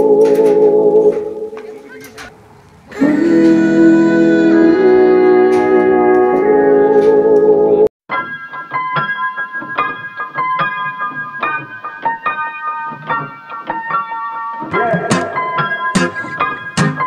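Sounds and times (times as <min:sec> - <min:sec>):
electric piano chords: 0:02.3 - 0:17.0
background music: 0:03.0 - 0:17.0.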